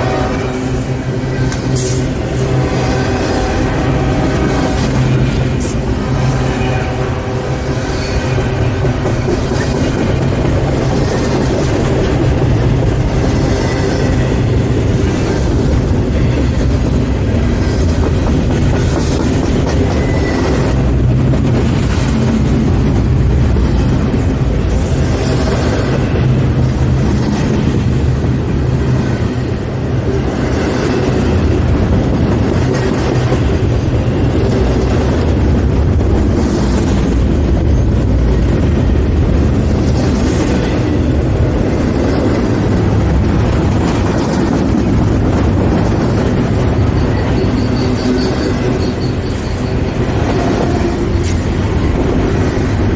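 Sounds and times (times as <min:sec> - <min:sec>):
train cars clattering: 0:00.0 - 0:52.9
train wheels rumbling on rail: 0:00.0 - 0:52.9.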